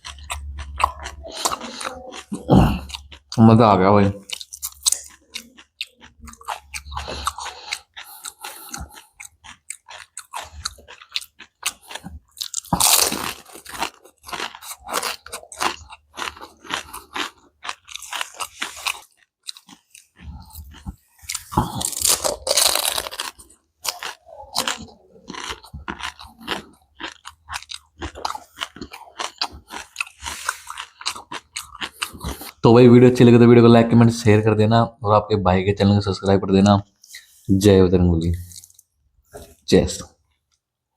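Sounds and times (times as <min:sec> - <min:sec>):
chewing and crunching food: 0:00.0 - 0:34.2, 0:38.4 - 0:40.8.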